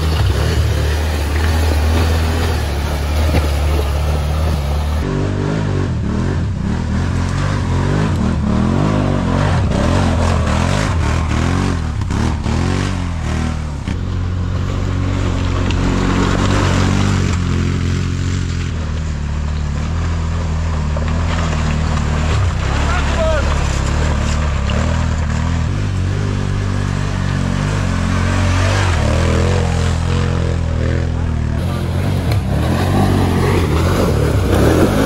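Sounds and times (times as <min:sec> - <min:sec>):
atv engine revving: 0:00.0 - 0:35.0.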